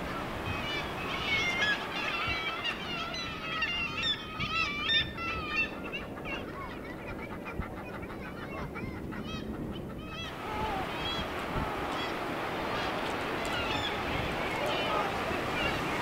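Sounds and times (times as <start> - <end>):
sea: 0.0 - 16.0
seabirds calling: 0.0 - 16.0
wind: 0.0 - 16.0.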